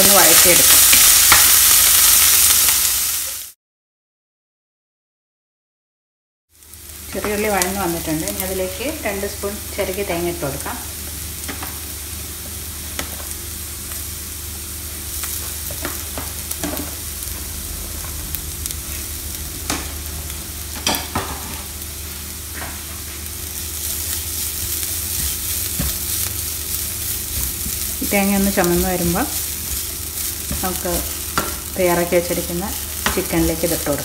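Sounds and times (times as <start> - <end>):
shallots sizzling in oil: 0.0 - 3.6, 6.5 - 34.0.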